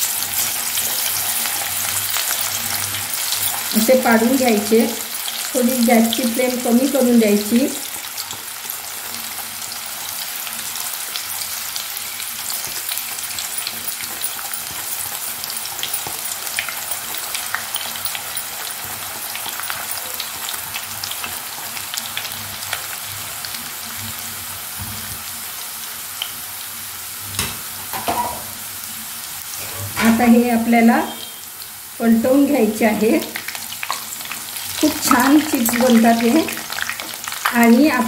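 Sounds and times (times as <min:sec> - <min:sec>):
slices frying in hot oil: 0:00.0 - 0:38.0.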